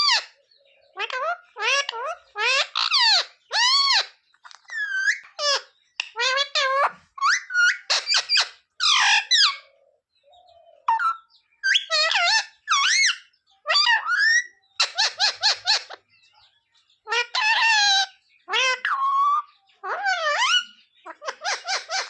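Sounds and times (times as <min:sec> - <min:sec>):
parrot calling and chattering: 0:00.0 - 0:09.8, 0:10.4 - 0:22.0.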